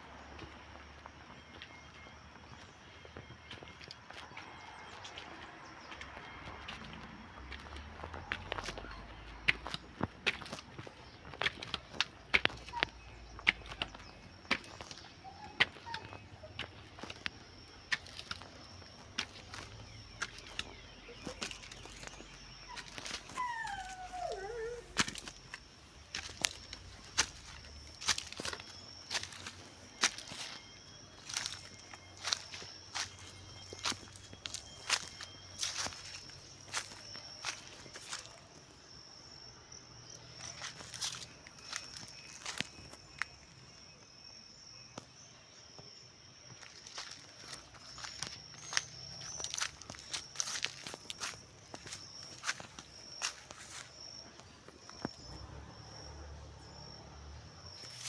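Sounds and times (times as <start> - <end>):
insect high-pitched trill: 11.0 - 58.0.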